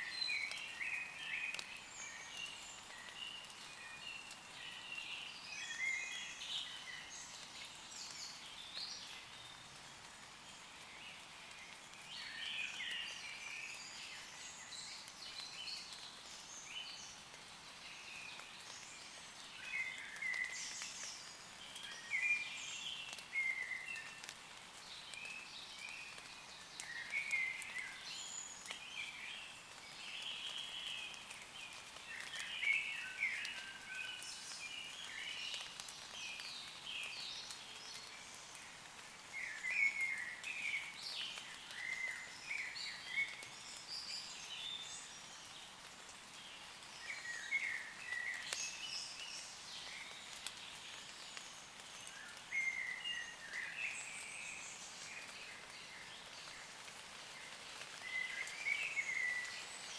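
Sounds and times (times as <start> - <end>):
light rain on leaves: 0.0 - 59.9.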